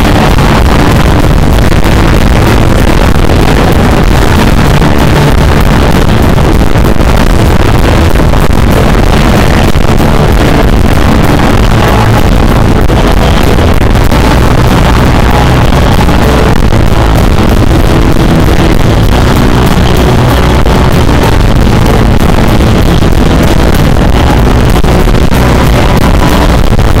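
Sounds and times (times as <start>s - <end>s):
distorted live band music: 0.0s - 27.0s.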